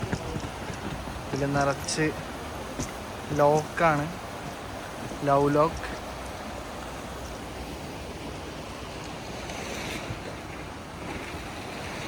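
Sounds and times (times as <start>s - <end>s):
river rushing: 0.0s - 12.0s
wind rumbling on microphone: 0.0s - 12.0s.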